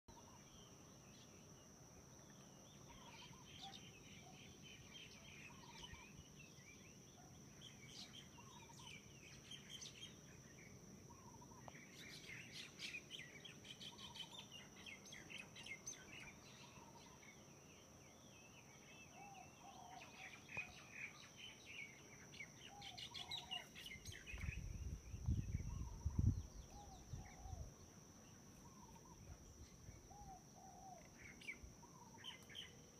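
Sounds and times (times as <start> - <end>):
faint birds chirping: 0.1 - 32.9.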